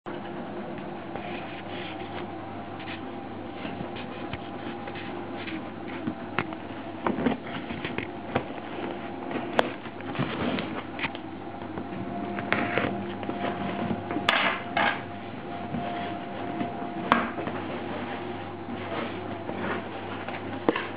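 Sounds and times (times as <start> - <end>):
steady low hum: 0.1 - 20.9.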